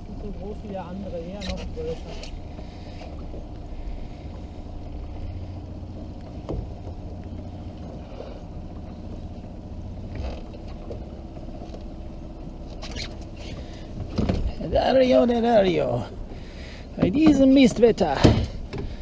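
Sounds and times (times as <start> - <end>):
boat low rumble: 0.0 - 19.0.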